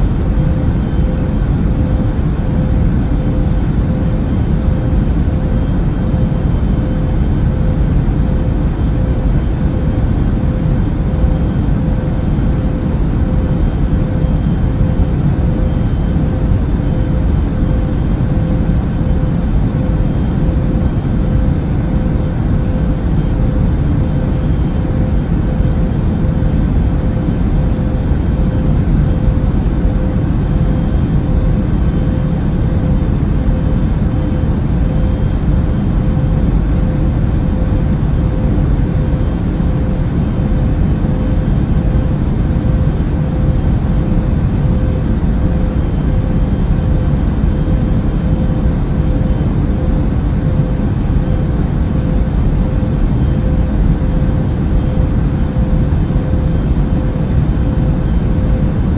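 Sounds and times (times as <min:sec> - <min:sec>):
aircraft cabin engine rumble: 0:00.0 - 0:58.9
constant hum: 0:00.0 - 0:58.9.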